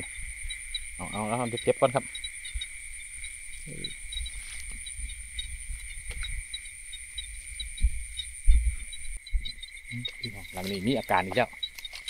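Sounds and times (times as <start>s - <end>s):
crickets and insects trilling: 0.0s - 12.0s
pulsing insect chirp: 0.0s - 12.0s.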